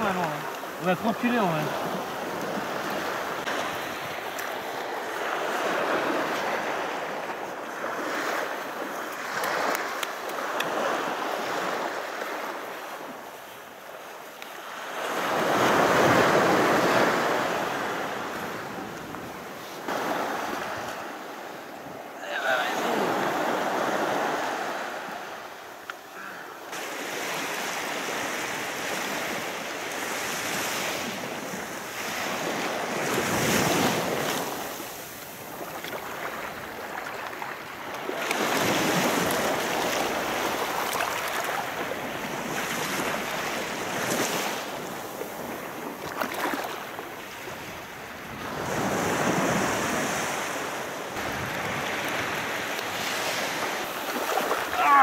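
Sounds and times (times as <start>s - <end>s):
sea waves breaking on beach: 0.0s - 55.0s.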